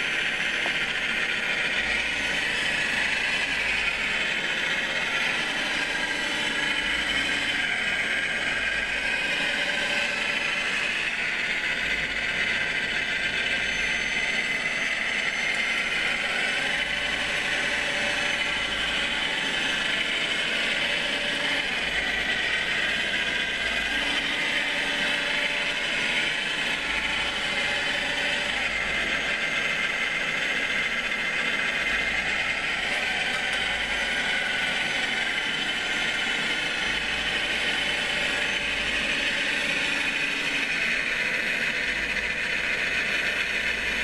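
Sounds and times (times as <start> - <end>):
electric motors whirring: 0.0 - 44.0.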